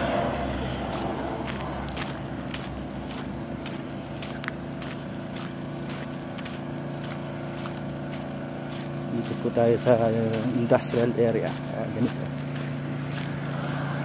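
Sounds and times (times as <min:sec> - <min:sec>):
footsteps on gravel: 0:00.0 - 0:14.0
low engine hum: 0:00.0 - 0:14.0.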